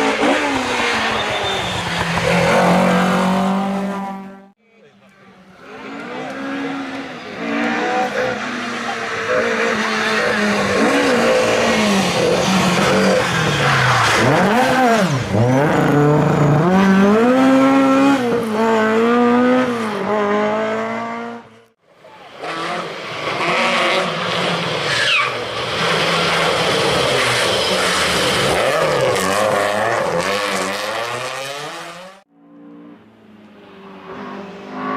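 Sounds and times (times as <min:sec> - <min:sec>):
rally car engine revving: 0:00.0 - 0:04.6, 0:05.5 - 0:21.7, 0:22.3 - 0:33.2.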